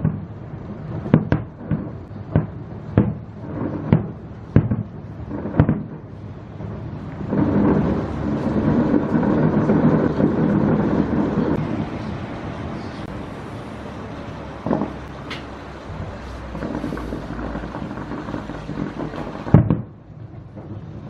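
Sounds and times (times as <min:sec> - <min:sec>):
firework bang: 0:00.0 - 0:12.0, 0:14.6 - 0:21.0
fireworks barrage rumbling: 0:00.0 - 0:21.0.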